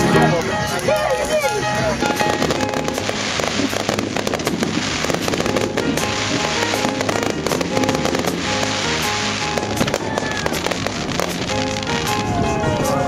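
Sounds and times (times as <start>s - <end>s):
fireworks bangs and crackling: 0.0s - 13.0s
music playing: 0.0s - 13.0s.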